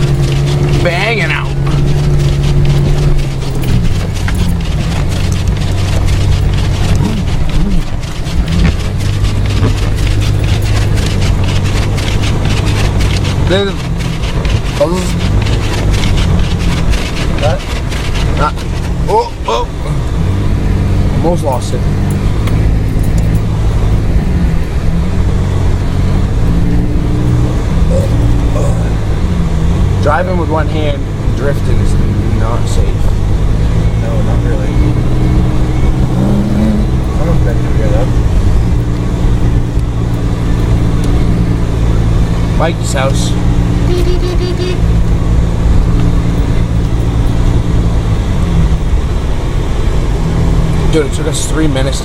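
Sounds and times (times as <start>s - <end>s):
car engine running: 0.0s - 52.0s
tyre and road noise: 0.0s - 52.0s.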